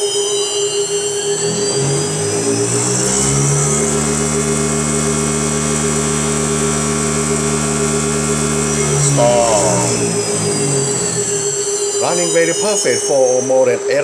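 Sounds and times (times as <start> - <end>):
spindle motor whine: 0.0 - 13.9.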